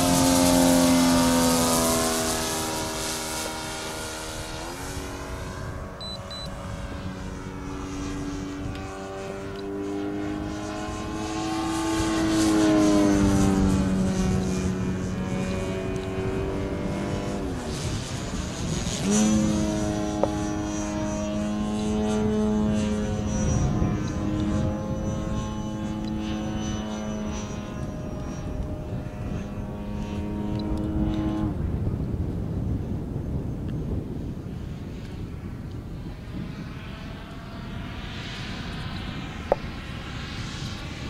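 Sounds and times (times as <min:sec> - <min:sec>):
model plane motor whine: 0:00.0 - 0:41.0.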